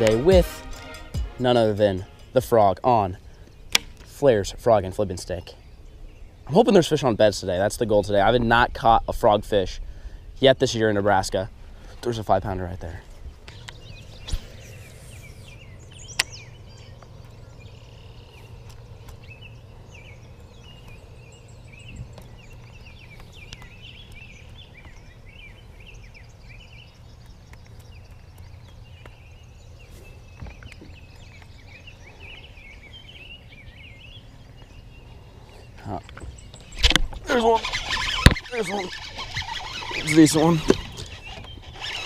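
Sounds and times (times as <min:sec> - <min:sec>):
birds chirping and singing: 0:00.0 - 0:42.0
steady low hum: 0:00.0 - 0:42.0.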